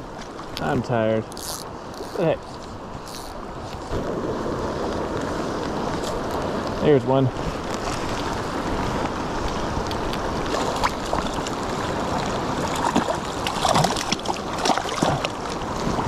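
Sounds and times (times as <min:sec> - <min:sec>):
river rushing: 0:00.0 - 0:16.0
rain: 0:01.3 - 0:16.0.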